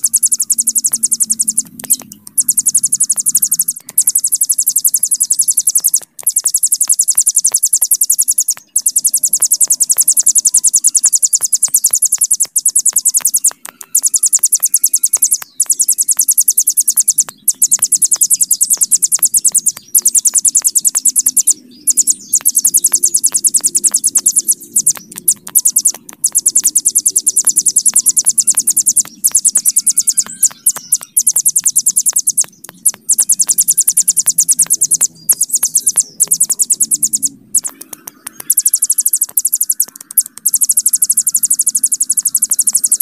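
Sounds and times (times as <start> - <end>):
bird buzzing trill: 0.0 - 43.0.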